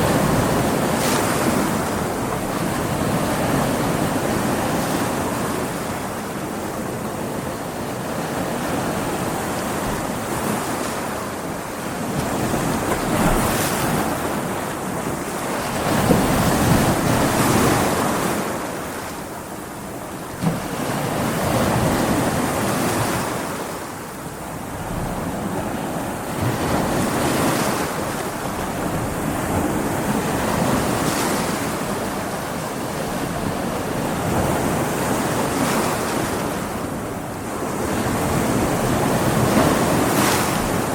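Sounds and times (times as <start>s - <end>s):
ocean waves breaking on rocks: 0.0s - 40.9s.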